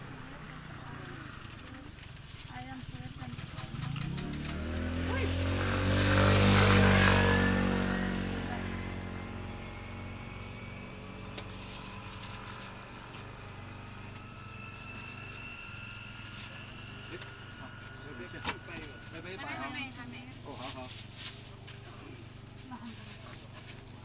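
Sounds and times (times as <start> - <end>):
motor vehicle passing: 0.0 - 24.0.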